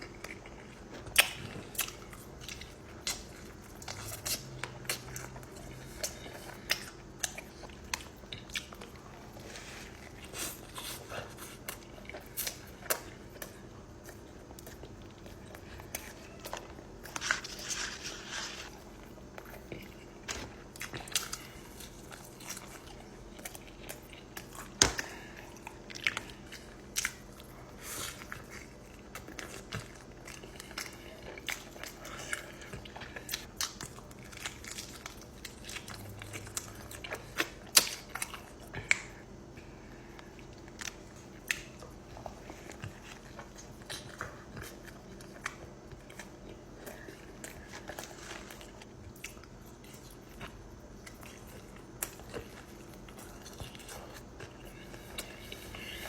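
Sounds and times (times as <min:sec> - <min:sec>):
faint steady hum: 0:00.0 - 0:56.0
person chewing food: 0:00.0 - 0:56.0.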